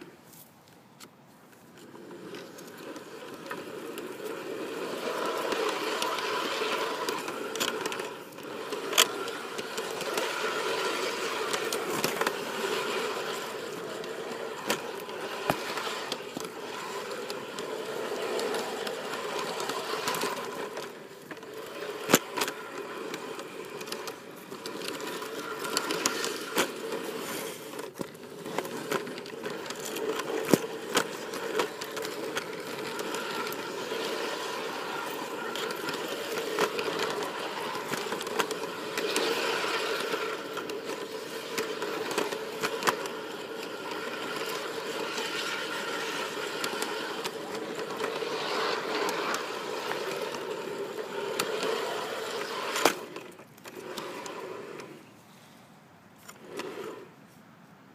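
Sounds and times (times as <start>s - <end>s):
clicks and rattles on track: 0.7s - 55.1s
model locomotive motor hum: 1.5s - 55.6s, 56.2s - 57.4s.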